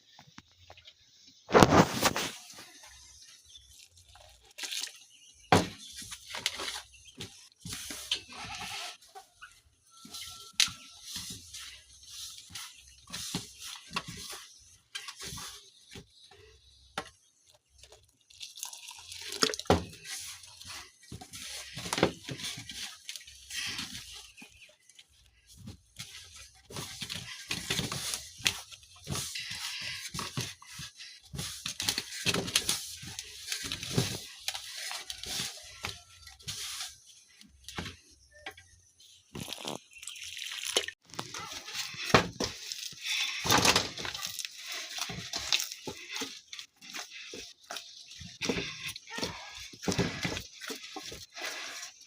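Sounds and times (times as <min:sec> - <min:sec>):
rustling and scraping handling noises: 0:00.0 - 0:18.5, 0:19.1 - 0:40.0, 0:40.8 - 0:52.0.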